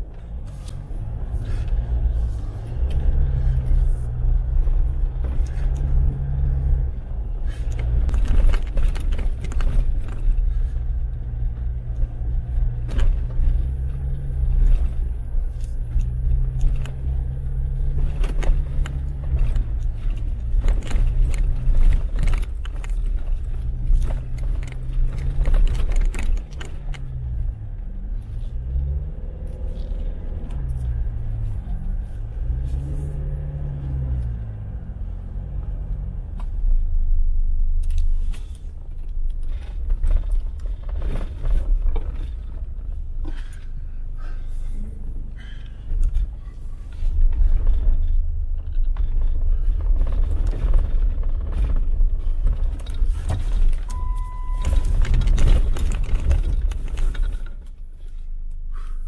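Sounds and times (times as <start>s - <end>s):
knocks and rattles from vehicle: 0.0s - 59.0s
off-road vehicle engine running: 0.0s - 59.0s.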